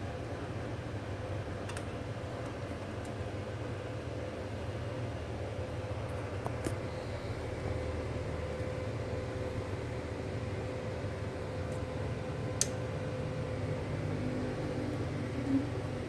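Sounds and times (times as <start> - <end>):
low mechanical hum and hiss: 0.0 - 16.0.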